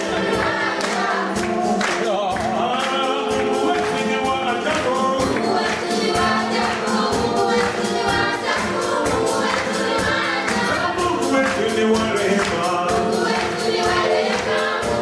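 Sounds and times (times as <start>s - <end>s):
children's choir singing: 0.0s - 15.0s
drum kit beat: 0.0s - 15.0s
keyboard: 0.0s - 15.0s.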